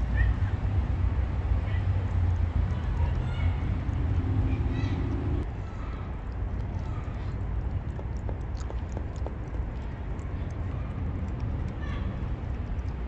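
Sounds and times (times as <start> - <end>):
cat chewing and lapping: 0.0 - 13.0
low steady rumble: 0.0 - 13.0.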